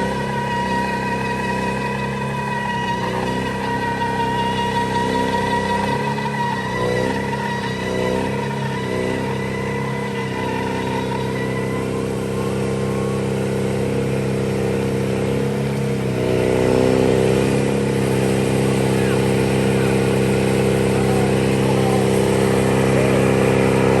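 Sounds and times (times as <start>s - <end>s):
truck engine running and revving: 0.0s - 24.0s.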